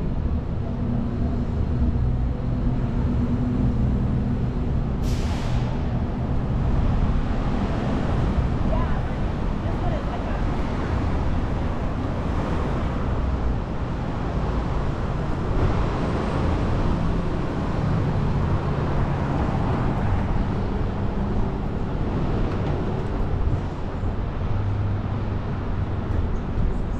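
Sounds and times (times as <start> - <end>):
city street traffic noise: 0.0 - 26.9.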